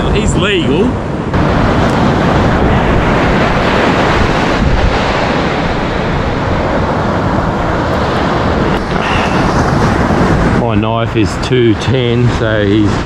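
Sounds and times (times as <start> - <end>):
surf breaking on shore: 0.0 - 13.0
wind buffeting microphone: 0.0 - 13.0.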